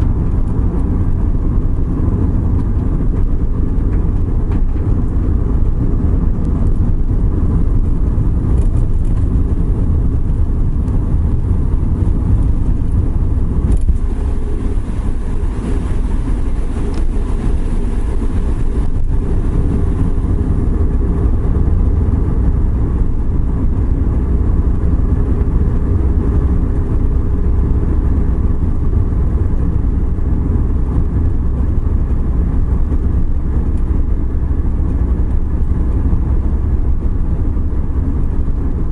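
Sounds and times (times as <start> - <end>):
car engine: 0.0 - 38.9
tyres on wet road: 0.0 - 38.9.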